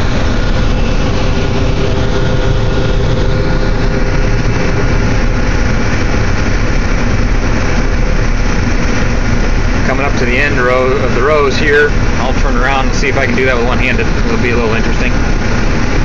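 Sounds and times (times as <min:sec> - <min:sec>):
combine engine and threshing drone: 0:00.0 - 0:16.0
faint steady whine: 0:00.0 - 0:16.0.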